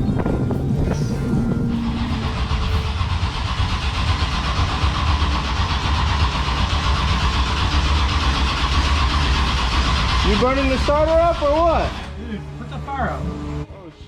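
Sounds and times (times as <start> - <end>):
engine cranking on starter: 0.0 - 12.4.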